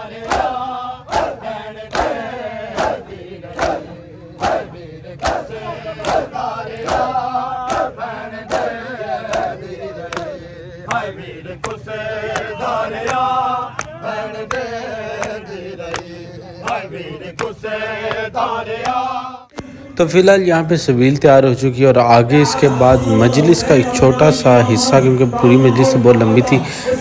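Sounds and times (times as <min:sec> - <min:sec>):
men chanting a lament: 0:00.0 - 0:27.0.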